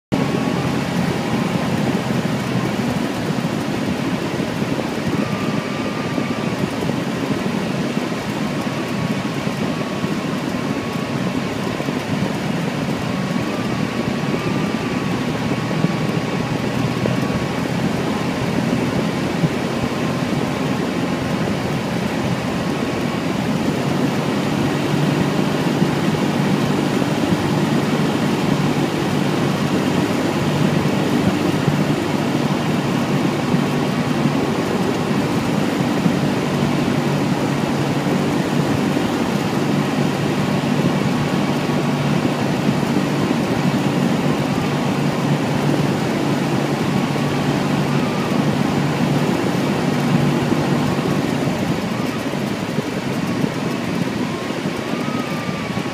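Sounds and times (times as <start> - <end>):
airplane engine and propeller: 0.0 - 55.9.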